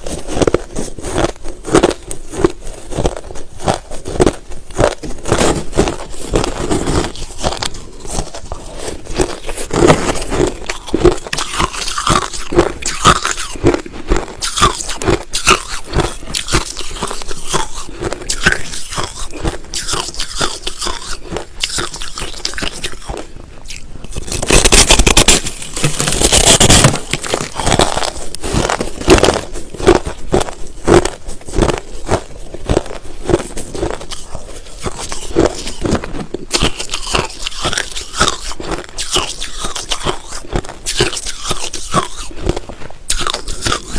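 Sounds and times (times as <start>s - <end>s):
chewing crushed ice: 0.0s - 43.9s.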